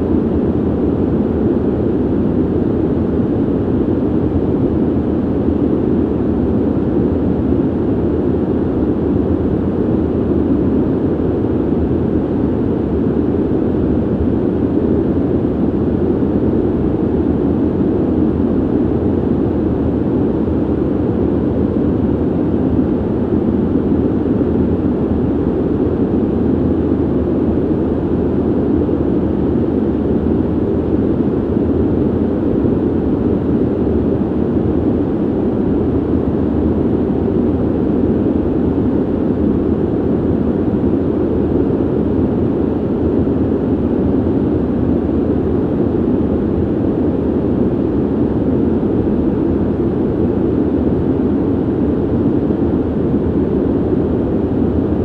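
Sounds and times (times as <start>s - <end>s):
ventilation air hiss: 0.0s - 55.0s.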